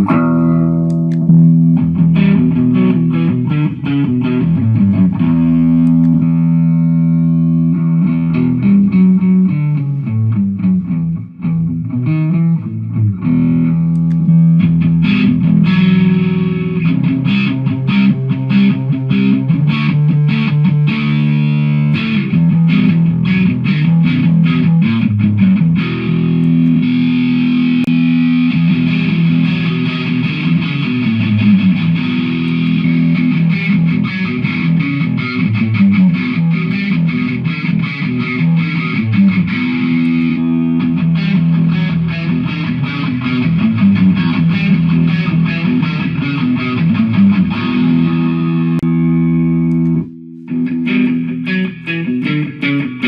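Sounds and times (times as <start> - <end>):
distorted electric guitar: 0.0 - 53.0.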